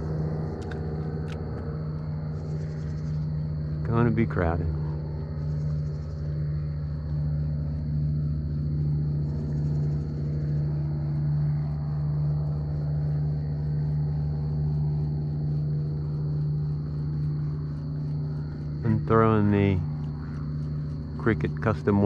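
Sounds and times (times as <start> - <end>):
airboat engine and propeller: 0.0 - 22.0.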